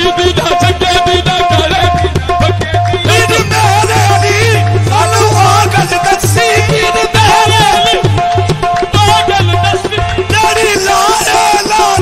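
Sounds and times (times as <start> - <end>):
harmonium playing held notes: 0.0 - 12.0
man singing ornamented melody: 0.0 - 12.0.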